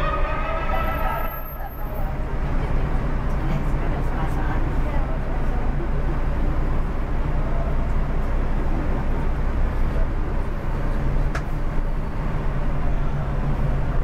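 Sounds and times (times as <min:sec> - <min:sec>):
diesel bus engine droning: 0:00.0 - 0:14.0.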